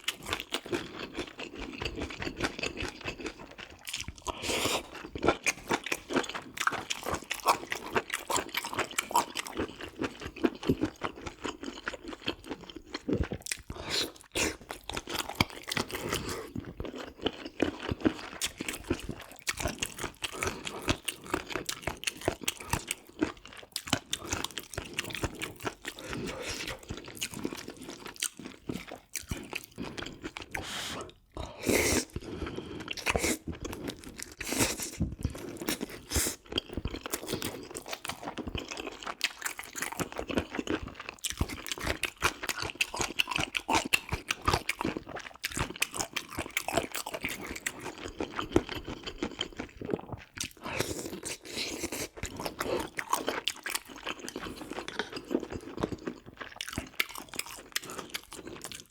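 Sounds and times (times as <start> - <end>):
chewing and biting food: 0.0 - 58.9.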